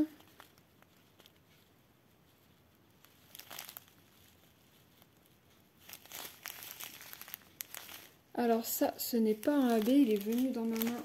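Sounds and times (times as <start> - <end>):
plastic bags crinkling: 0.0 - 1.6, 3.0 - 11.0.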